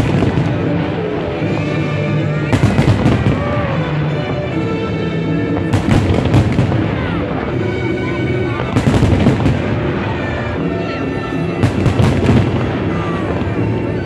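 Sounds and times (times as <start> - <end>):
fireworks bursting: 0.0 - 4.6, 5.5 - 14.0
music: 0.0 - 14.0.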